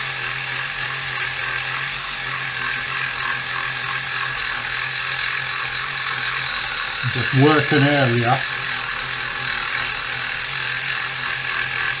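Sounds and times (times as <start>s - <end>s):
electric sander running: 0.0s - 12.0s.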